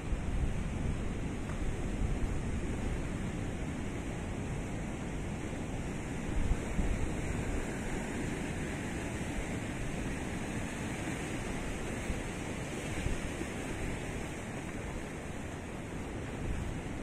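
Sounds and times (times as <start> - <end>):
waves breaking on rocks: 0.3 - 17.0.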